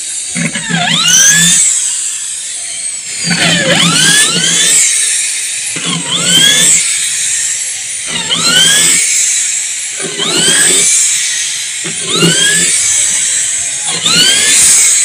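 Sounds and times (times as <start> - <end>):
power drill motor whine: 0.0 - 15.0.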